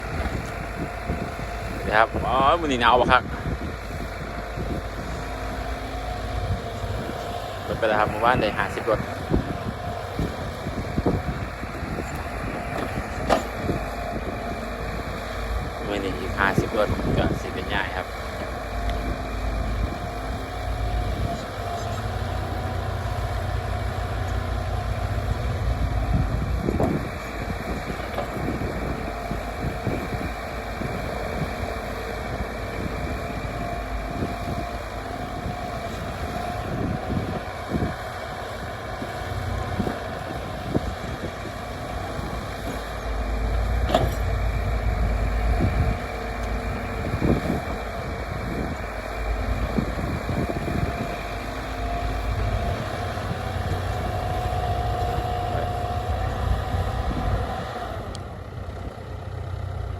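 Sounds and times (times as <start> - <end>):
wind buffeting microphone: 0.0 - 59.6
vehicle engine running: 0.0 - 59.9.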